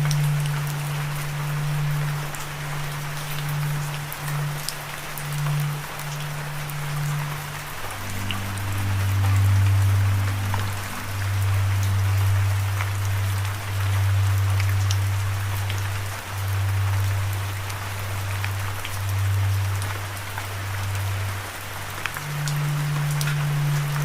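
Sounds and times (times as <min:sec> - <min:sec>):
low droning hum: 0:00.0 - 0:24.0
rain hissing: 0:00.0 - 0:24.0.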